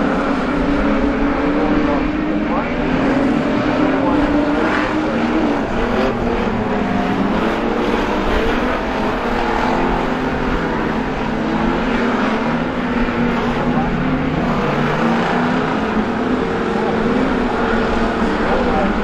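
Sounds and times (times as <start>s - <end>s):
race car engines revving: 0.0s - 19.0s.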